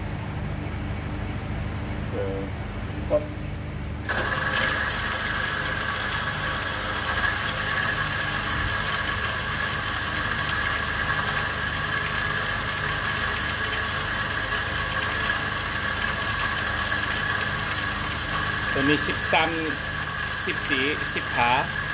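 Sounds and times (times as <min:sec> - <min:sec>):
coffee grinder whirring: 0:04.1 - 0:21.9.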